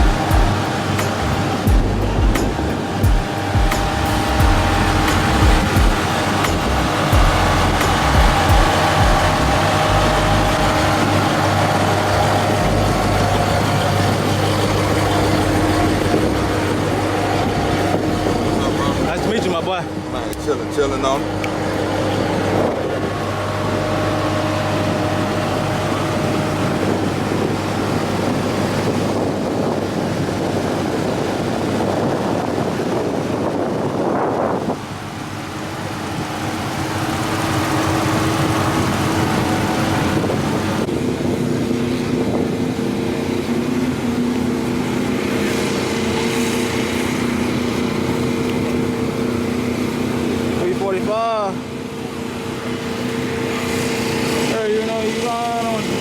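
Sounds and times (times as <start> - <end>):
car engine running: 0.0 - 56.0
road and wind noise: 0.0 - 56.0.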